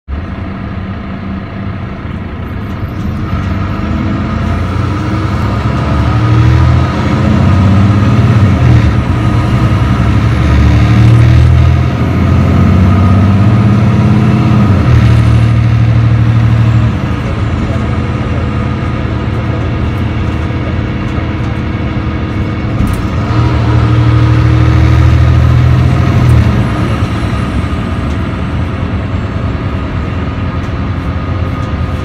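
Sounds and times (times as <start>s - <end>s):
bus diesel engine at full throttle: 0.1s - 32.0s.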